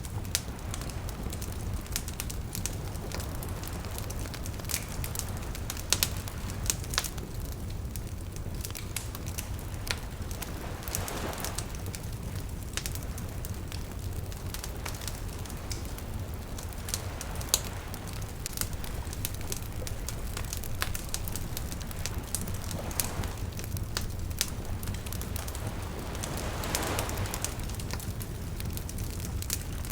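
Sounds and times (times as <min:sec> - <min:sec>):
bonfire crackling and popping: 0:00.0 - 0:29.9
sea waves: 0:00.3 - 0:29.9.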